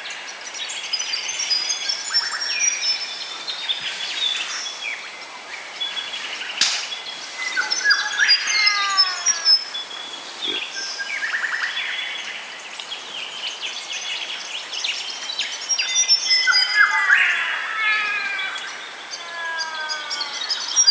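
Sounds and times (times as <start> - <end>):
birds chirping and whistling: 0.7 - 14.2, 14.8 - 20.9.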